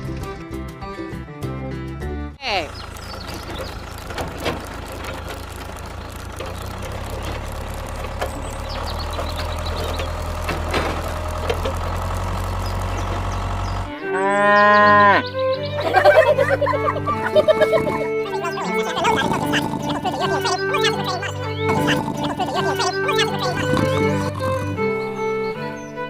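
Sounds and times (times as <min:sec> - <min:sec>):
engine running with low hum: 0:02.5 - 0:26.0.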